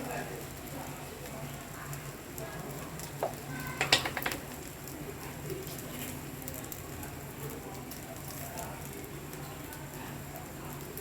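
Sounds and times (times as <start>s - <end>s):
food sizzling and crackling: 0.0s - 11.0s.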